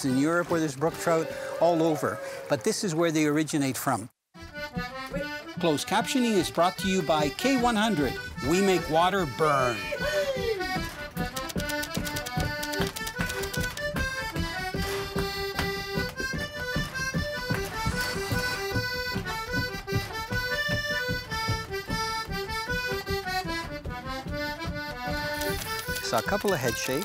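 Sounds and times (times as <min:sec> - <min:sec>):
instrumental background music: 0:04.4 - 0:27.0.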